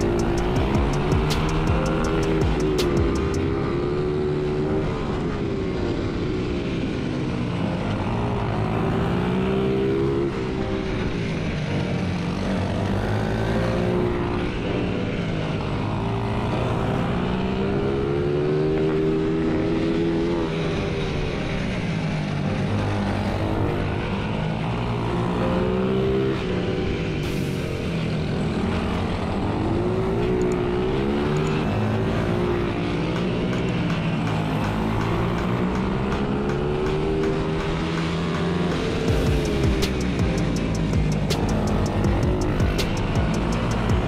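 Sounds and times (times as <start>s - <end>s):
motorbike engine revving: 0.0s - 44.0s.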